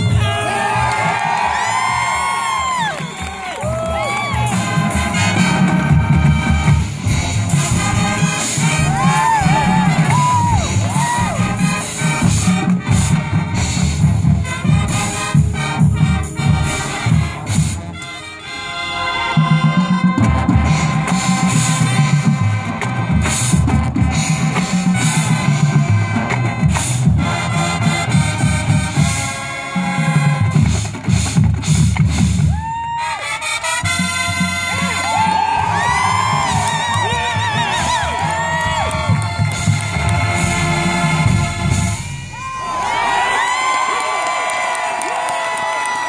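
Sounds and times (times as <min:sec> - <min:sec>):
marching band playing: 0:00.0 - 0:46.0.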